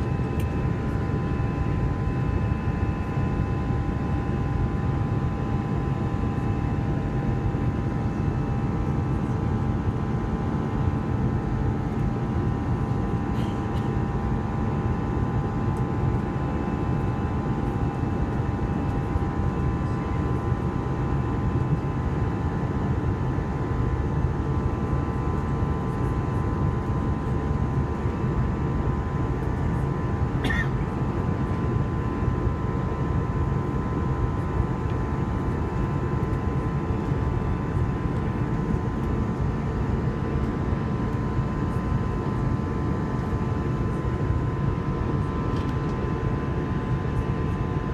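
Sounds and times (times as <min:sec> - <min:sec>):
low rush of engines and airflow: 0:00.0 - 0:47.9.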